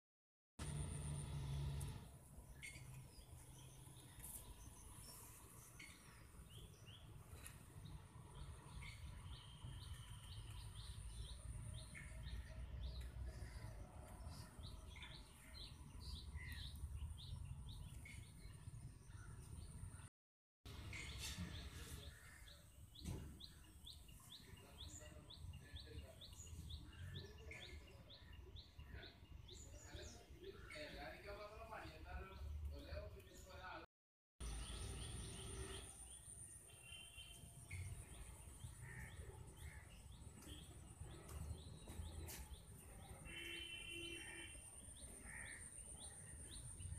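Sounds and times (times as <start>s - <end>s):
birds chirping: 0.6s - 20.1s, 20.7s - 33.8s, 34.4s - 46.9s.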